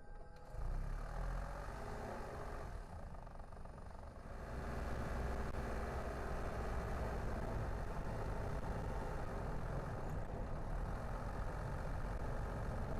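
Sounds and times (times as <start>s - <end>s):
car engine and road rumble: 0.0s - 12.9s.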